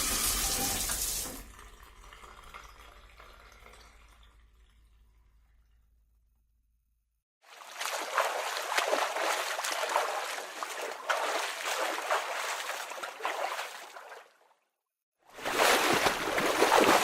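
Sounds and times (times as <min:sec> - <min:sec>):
water splashing and trickling: 0:00.0 - 0:06.3, 0:07.4 - 0:14.6, 0:15.3 - 0:17.0.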